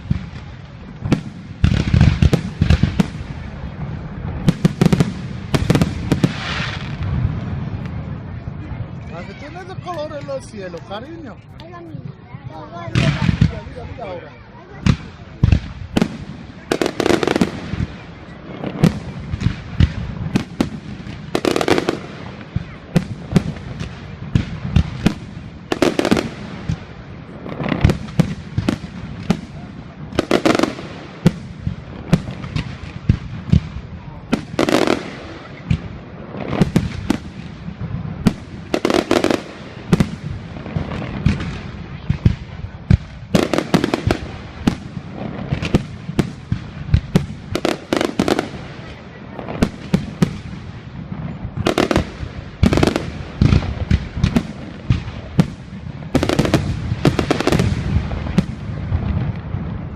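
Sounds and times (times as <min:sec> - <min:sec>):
fireworks bangs and pops: 0:00.0 - 0:59.9
large firework bursts: 0:00.0 - 0:59.9.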